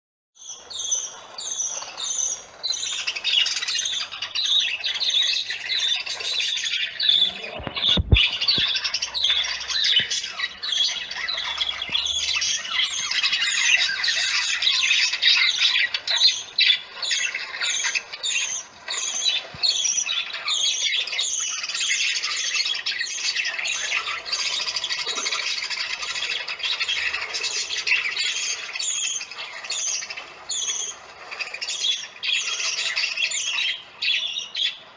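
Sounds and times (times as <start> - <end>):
parakeets screeching: 0.4 - 34.9.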